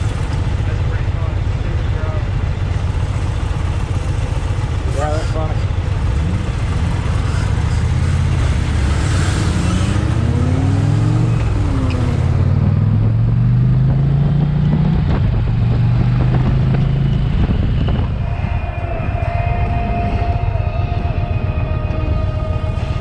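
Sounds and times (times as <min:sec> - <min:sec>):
motorcycle engine accelerating: 0:00.0 - 0:23.0
road and wind noise: 0:00.0 - 0:23.0.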